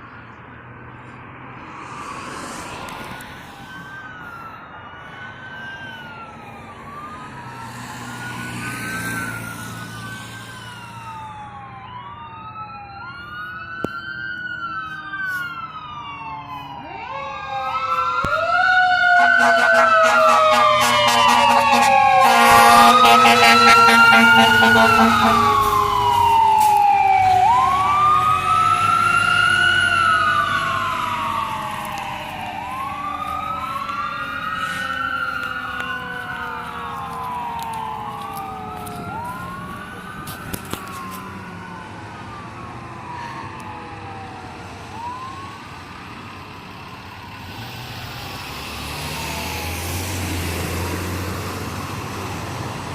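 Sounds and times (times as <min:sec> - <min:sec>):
fire engine siren wailing: 0:00.0 - 0:52.9
low engine and road rumble: 0:00.0 - 0:52.9.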